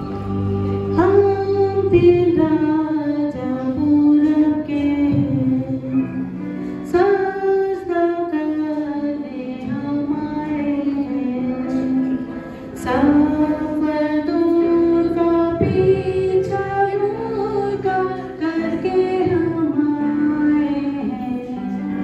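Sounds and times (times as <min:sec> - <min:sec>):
instrumental backing music: 0:00.0 - 0:22.0
woman singing a slow melody: 0:00.0 - 0:22.0.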